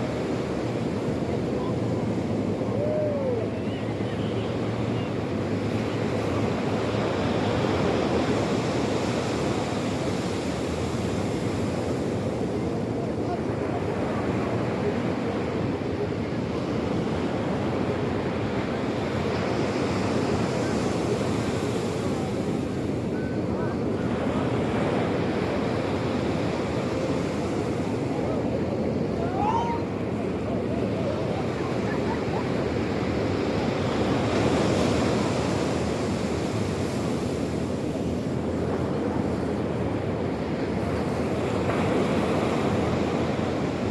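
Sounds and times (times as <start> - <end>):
sea waves washing: 0.0 - 43.9.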